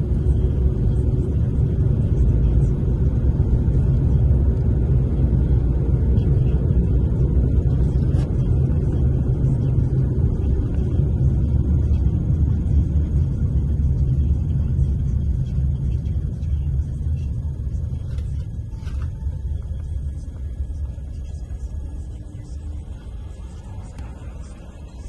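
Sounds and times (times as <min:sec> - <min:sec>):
road and engine noise in car cabin: 0:00.0 - 0:25.0.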